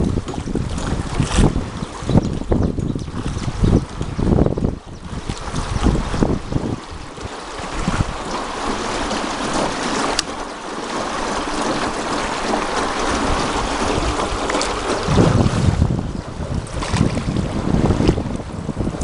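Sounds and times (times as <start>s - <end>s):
water rushing and lapping: 0.0s - 19.0s
wind on microphone: 0.0s - 19.0s.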